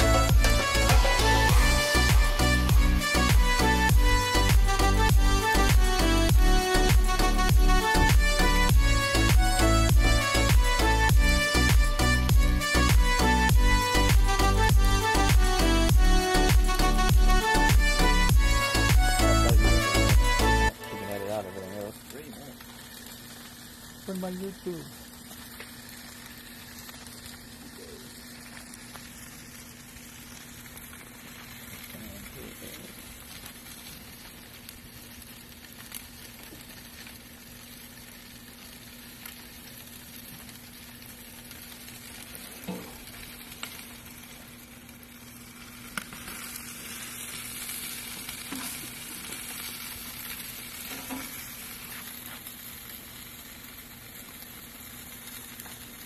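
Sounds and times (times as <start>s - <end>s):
meat sizzling with pops: 0.0s - 56.0s.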